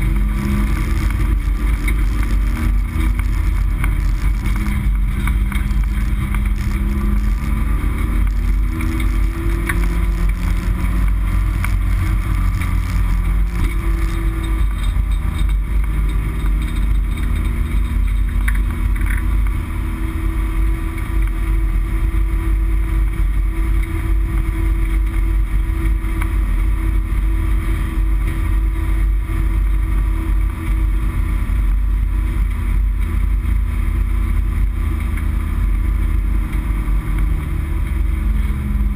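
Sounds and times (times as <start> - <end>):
race car engine rumbling: 0.0 - 38.9.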